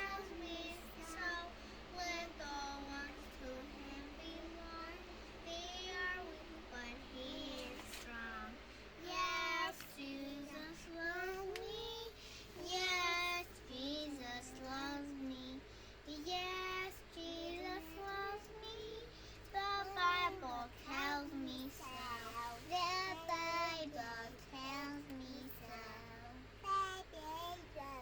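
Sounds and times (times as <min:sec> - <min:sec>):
child singing: 0:00.0 - 0:28.0.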